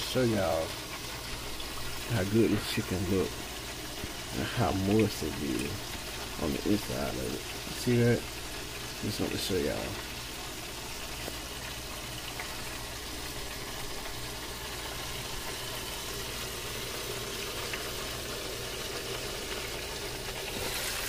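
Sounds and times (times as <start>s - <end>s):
oil bubbling and sizzling: 0.0s - 21.0s.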